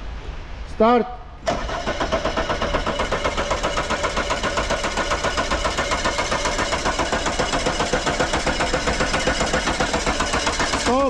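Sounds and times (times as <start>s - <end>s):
engine cranking without starting: 1.4s - 11.0s.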